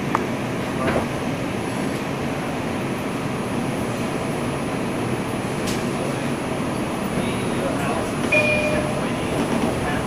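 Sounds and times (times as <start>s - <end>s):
subway train running: 0.0s - 10.0s.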